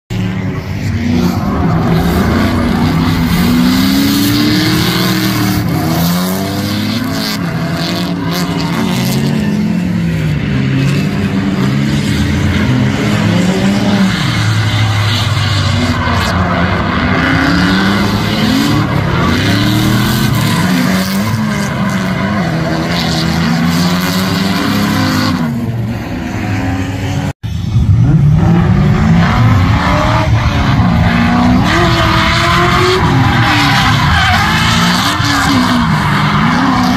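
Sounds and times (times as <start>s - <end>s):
car engines revving hard: 0.1s - 36.9s.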